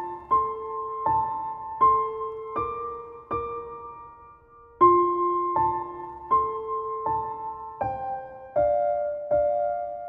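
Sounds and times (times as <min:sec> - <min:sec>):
slow piano notes ringing: 0:00.0 - 0:10.0.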